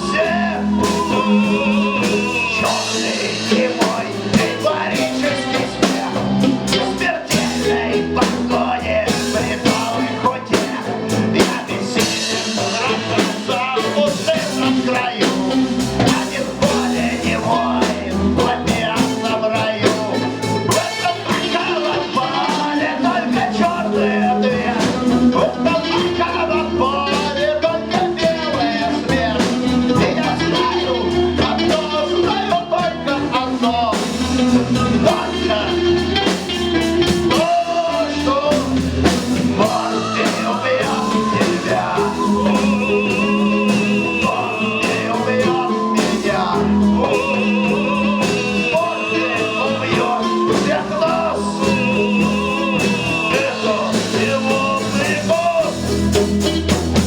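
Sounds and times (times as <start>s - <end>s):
lead vocal singing: 0.0s - 57.0s
rock band playing: 0.0s - 57.0s.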